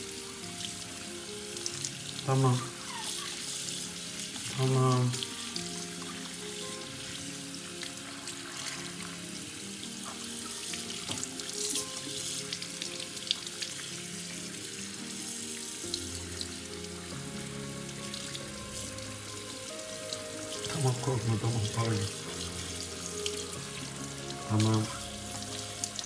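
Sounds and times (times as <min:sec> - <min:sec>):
soft background music: 0:00.0 - 0:26.0
tap water running into sink: 0:00.0 - 0:26.0.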